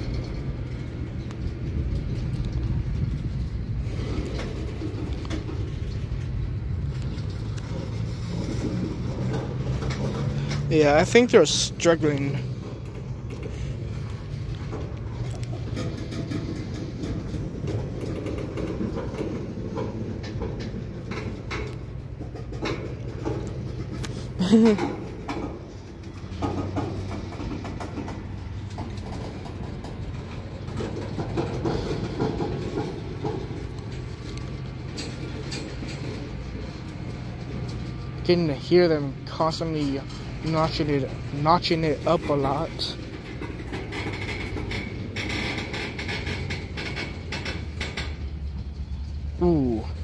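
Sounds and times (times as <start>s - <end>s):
diesel locomotive drone: 0.0s - 50.0s
train wheels clicking on rails: 0.0s - 50.0s.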